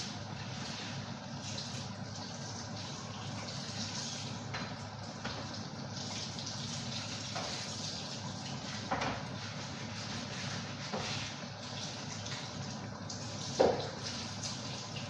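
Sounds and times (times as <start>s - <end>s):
pot boiling with bubbling: 0.0s - 15.0s.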